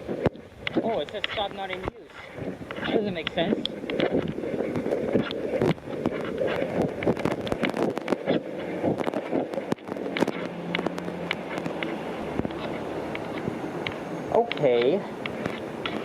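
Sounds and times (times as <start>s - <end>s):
light rain: 0.0s - 16.0s
scattered clicks and knocks: 0.0s - 16.0s
street traffic: 0.0s - 16.0s
wind buffeting microphone: 0.0s - 16.0s.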